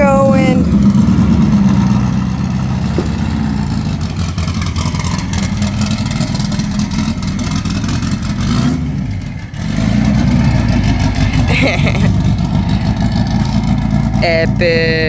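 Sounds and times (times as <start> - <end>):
car engine running loud: 0.0 - 15.0.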